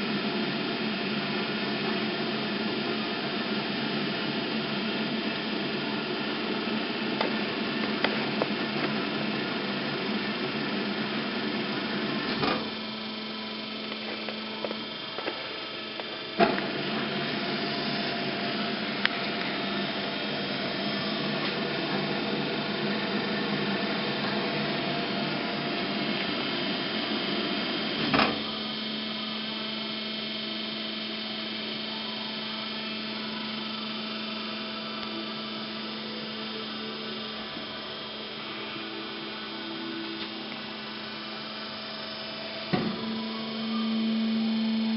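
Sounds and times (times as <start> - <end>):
bandsaw humming: 0.0 - 44.9.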